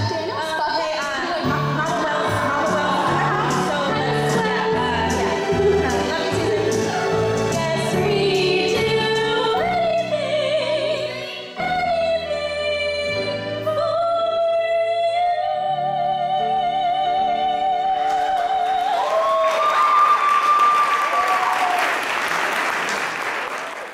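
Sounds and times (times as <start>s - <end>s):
musical accompaniment: 0.0s - 19.4s.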